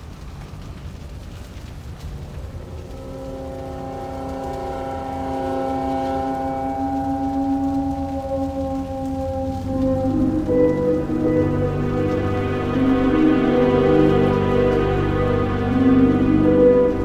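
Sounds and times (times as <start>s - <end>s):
low rumbling noise: 0.0s - 17.0s
sustained dark chord drone: 2.4s - 17.0s.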